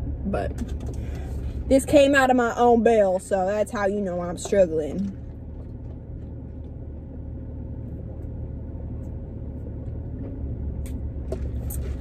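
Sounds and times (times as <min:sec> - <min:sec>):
car engine and air conditioning hum: 0:00.0 - 0:12.0.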